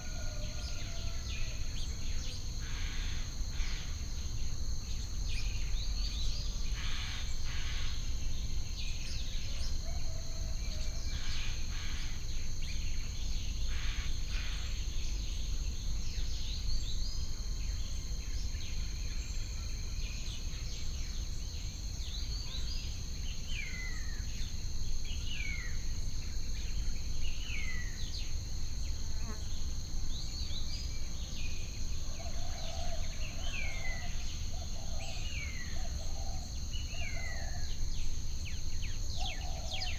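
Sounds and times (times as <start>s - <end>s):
high insect trill: 0.0s - 39.9s.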